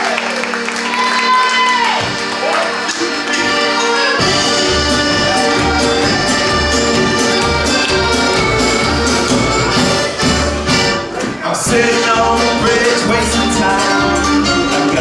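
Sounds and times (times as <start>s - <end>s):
live band with accordion: 2.0s - 15.0s.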